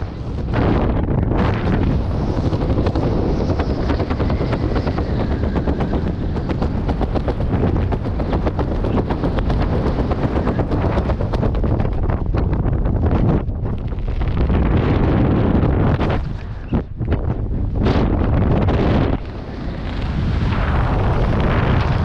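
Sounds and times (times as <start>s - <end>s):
fast rattling flutter: 0.0s - 22.0s
wind buffeting microphone: 0.0s - 22.0s.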